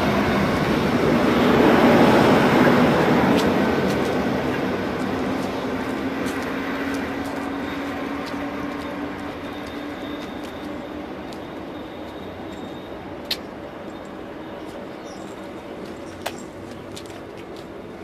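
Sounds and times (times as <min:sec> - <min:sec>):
electric train running: 0:00.0 - 0:14.9.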